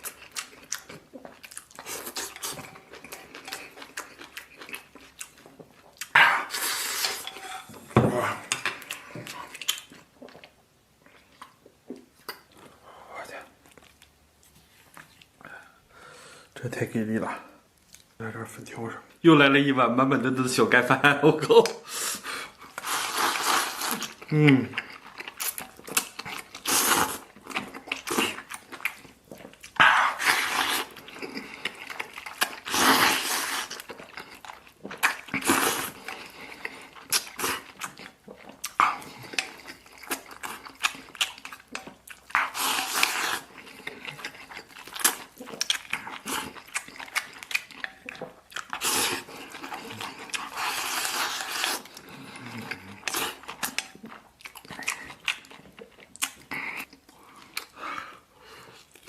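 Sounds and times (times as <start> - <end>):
man chewing and slurping: 0.0 - 12.7, 21.9 - 59.0.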